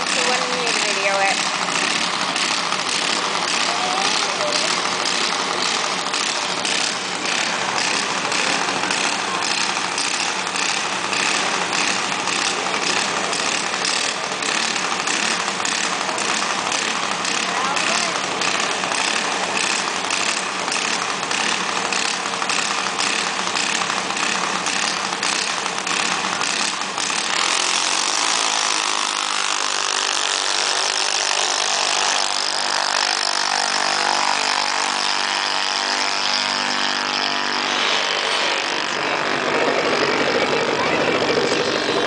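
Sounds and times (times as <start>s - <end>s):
dragster engines launching: 0.0s - 42.0s
small engines pulsing: 0.0s - 42.0s.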